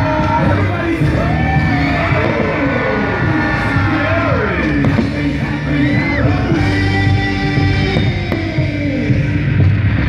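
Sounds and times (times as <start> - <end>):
gliding singing voices: 0.0 - 9.1
loud soundtrack music: 0.0 - 10.0.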